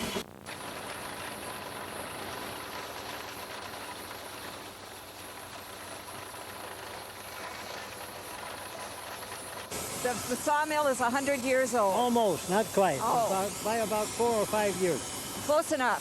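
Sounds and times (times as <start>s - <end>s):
steam engine and sawmill machinery: 0.0s - 16.0s.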